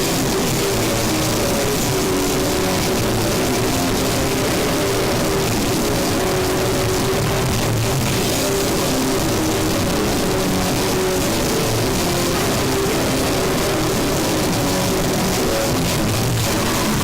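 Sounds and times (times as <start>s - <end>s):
shifting guitar notes: 0.0s - 17.0s
wall of distorted noise: 0.0s - 17.0s.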